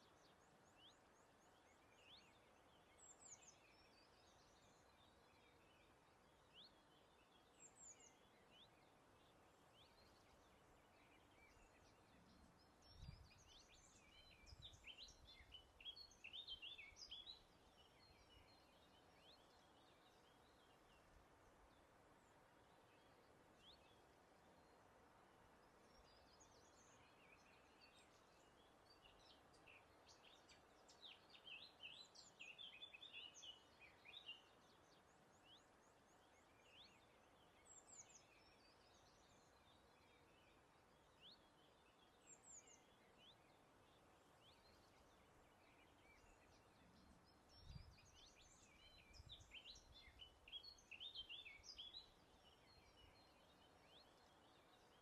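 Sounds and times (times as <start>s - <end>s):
wild birds singing: 0.0s - 55.0s.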